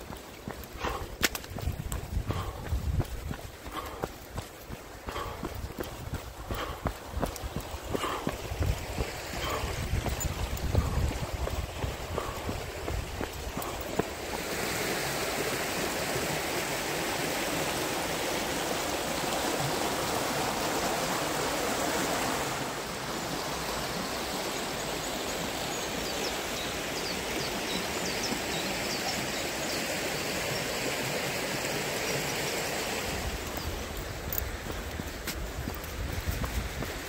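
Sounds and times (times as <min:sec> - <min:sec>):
water rushing over rapids: 0:00.0 - 0:37.0.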